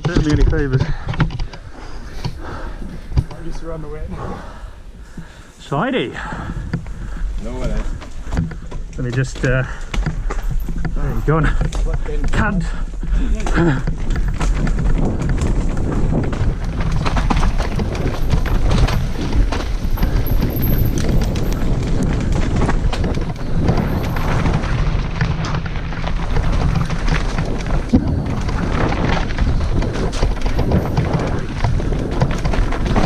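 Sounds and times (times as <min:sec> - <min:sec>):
bike rattling over bumps: 0:00.0 - 0:33.0
bike tyres on dirt and roots: 0:00.0 - 0:33.0
wind buffeting microphone: 0:00.0 - 0:33.0.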